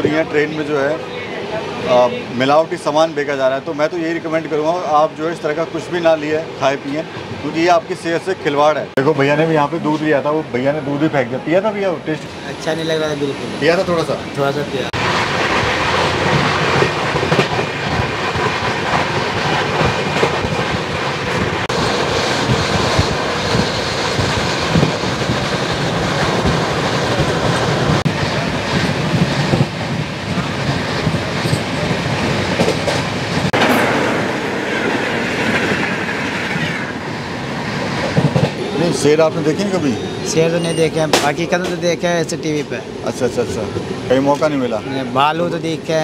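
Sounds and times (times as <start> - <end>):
passing train: 0.0 - 46.0
train wheel and wind rush: 0.0 - 46.0.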